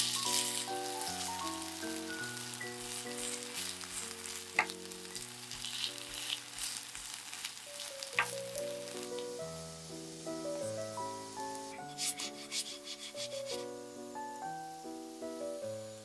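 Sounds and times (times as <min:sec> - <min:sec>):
background music with simple melody: 0:00.0 - 0:16.0
pancake sizzling in frying pan: 0:00.0 - 0:16.0.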